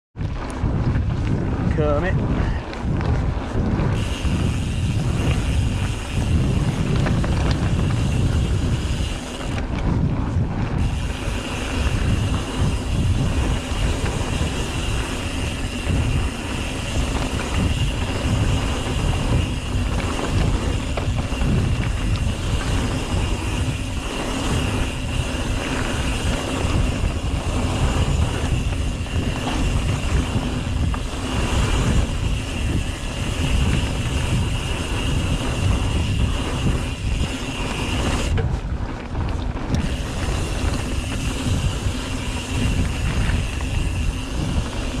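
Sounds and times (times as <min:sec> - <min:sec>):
bike tyres rumbling over ground: 0:00.2 - 0:45.0
wind on microphone: 0:00.2 - 0:45.0.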